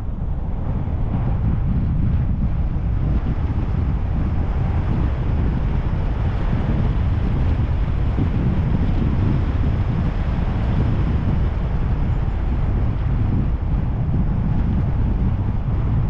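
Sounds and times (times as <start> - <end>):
car engine and road noise: 0.0 - 16.0
wind noise on microphone: 0.0 - 16.0.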